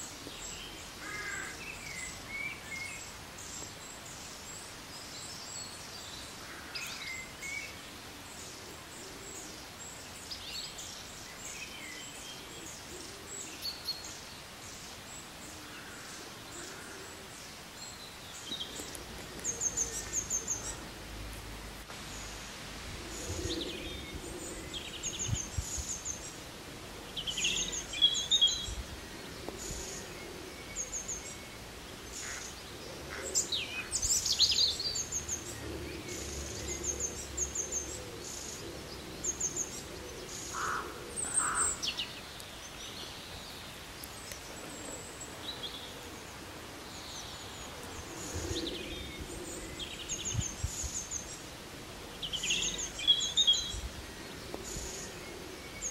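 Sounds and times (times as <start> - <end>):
birds chirping: 0.0 - 55.9
outdoor background hiss: 0.0 - 55.9.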